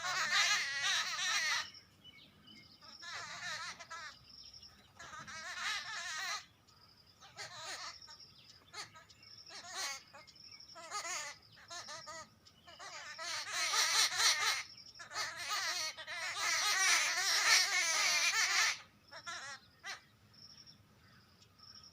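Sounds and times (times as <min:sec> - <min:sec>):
birds giving alarm calls: 0:00.0 - 0:02.0, 0:02.8 - 0:06.6, 0:07.2 - 0:20.3.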